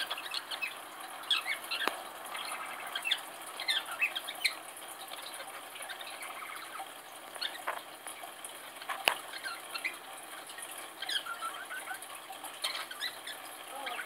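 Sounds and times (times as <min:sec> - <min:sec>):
bird call dipping and rising: 0:00.0 - 0:07.7, 0:08.8 - 0:14.0
parrots chirping and twittering: 0:00.0 - 0:14.0.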